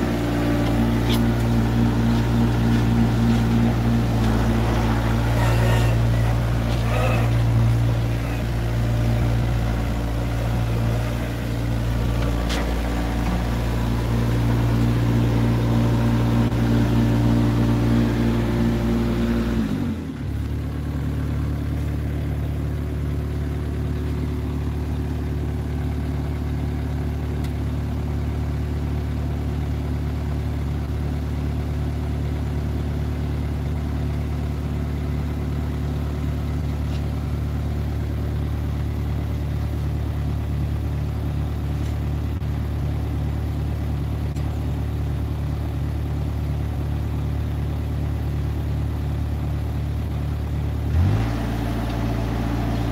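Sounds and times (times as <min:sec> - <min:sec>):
excavator diesel engine idling: 0:00.0 - 0:52.9.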